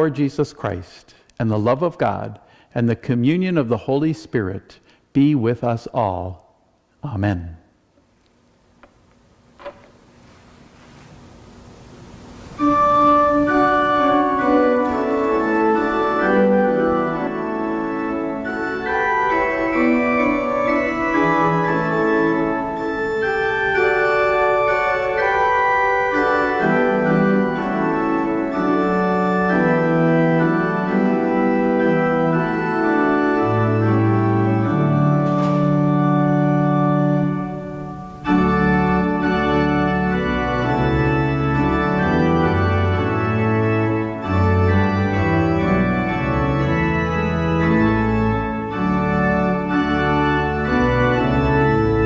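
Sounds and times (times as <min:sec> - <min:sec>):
organ playing held chords: 0:00.0 - 0:06.4, 0:11.3 - 0:52.0.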